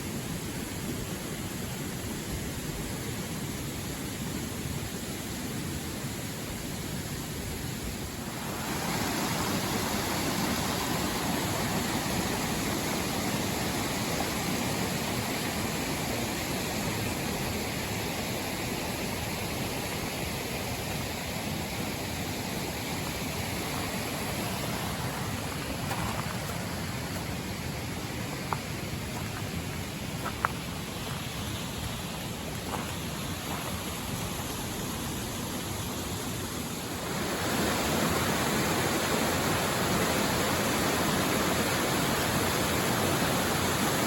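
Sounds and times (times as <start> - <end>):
steady rushing noise: 7.2 - 44.0.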